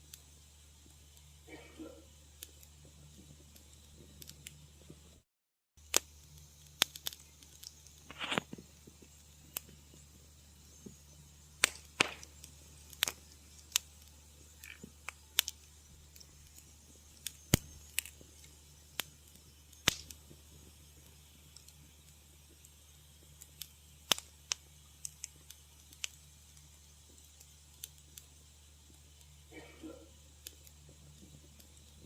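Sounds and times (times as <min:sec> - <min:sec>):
faint low hum: 0:00.0 - 0:05.2, 0:05.8 - 0:32.0
wood fire crackling: 0:00.0 - 0:05.2, 0:05.8 - 0:32.0
hissing sputter: 0:05.8 - 0:32.0.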